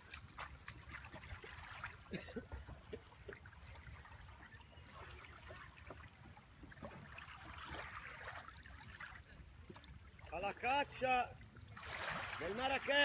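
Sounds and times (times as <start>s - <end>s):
kayak paddle dipping and dripping: 0.0s - 13.0s.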